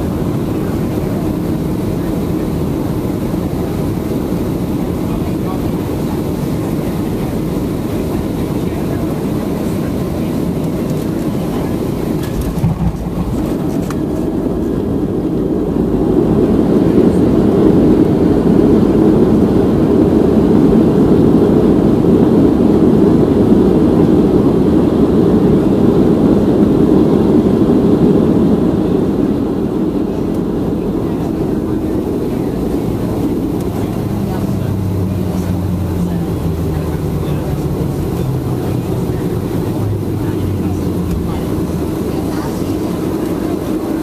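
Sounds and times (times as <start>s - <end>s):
jet engines rushing: 0.0s - 44.0s.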